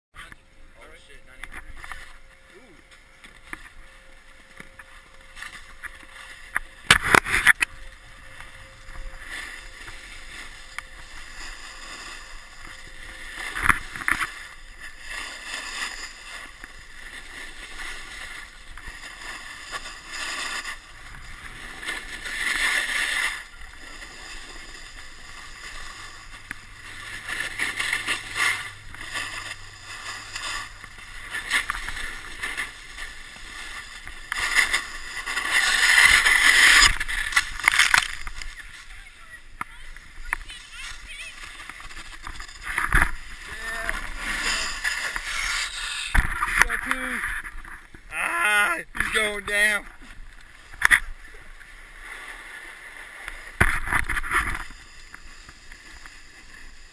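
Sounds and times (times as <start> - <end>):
snowboard scraping on snow: 1.7 - 56.9.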